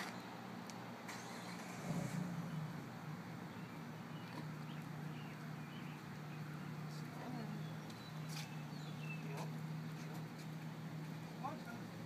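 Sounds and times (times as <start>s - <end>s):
steady low engine hum: 0.1s - 12.0s.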